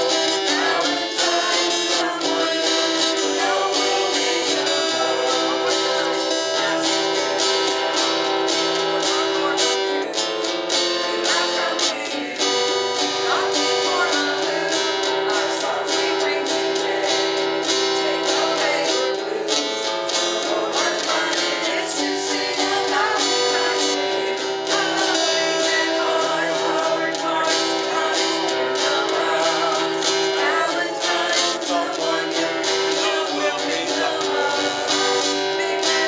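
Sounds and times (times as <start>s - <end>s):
acoustic guitar strumming: 0.0s - 36.0s
woman singing: 0.0s - 36.0s.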